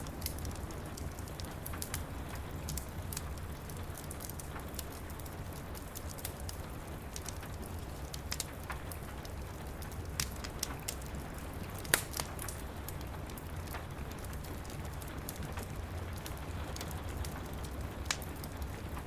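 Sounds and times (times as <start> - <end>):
steady rain: 0.0 - 19.0
wood fire crackling and popping: 0.0 - 19.0.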